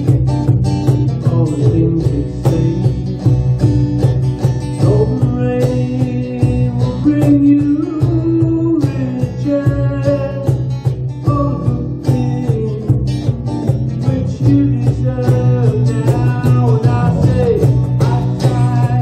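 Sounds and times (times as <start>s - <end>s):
cajon beat: 0.0s - 19.0s
strummed guitars: 0.0s - 19.0s.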